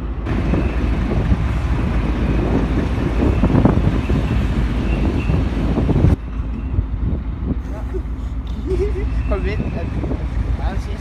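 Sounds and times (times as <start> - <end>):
truck engine rumbling: 0.0 - 11.0
wind on microphone: 0.1 - 11.0.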